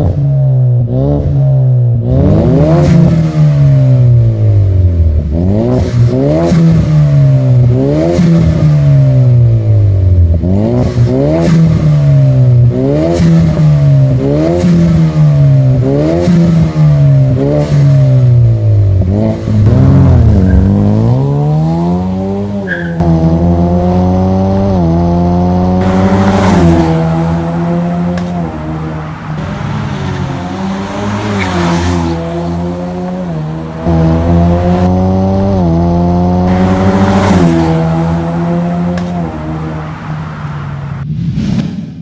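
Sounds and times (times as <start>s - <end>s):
car engine revving and accelerating: 0.0s - 41.0s.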